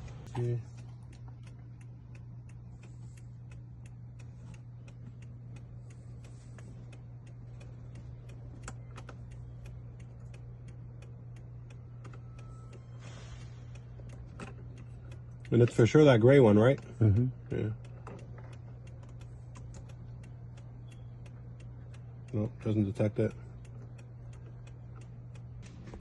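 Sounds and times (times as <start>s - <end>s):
low hum: 0.0s - 26.0s
steady ticking: 0.0s - 26.0s.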